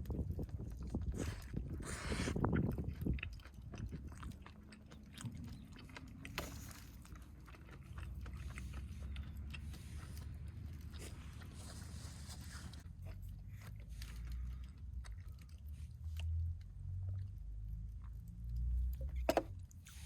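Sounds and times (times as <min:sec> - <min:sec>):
chewing crispy fried chicken: 0:00.0 - 0:20.0
low steady rumble: 0:00.0 - 0:20.0.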